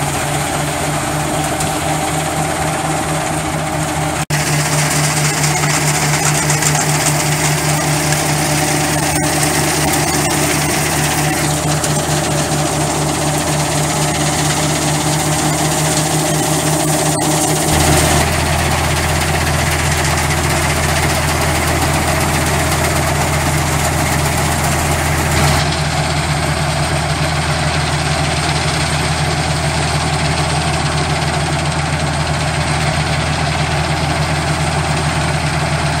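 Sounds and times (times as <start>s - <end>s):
branches rushing through machine: 0.0s - 30.0s
tractor engine drone: 0.0s - 36.0s.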